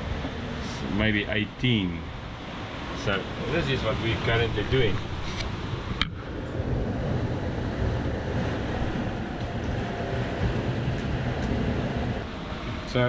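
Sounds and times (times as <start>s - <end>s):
wind and water rushing: 0.0s - 13.0s
wind rumble on microphone: 0.0s - 13.0s.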